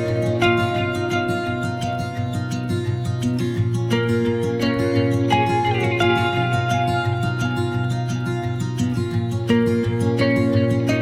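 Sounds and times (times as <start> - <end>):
plucked guitar music with beat: 0.0 - 11.0.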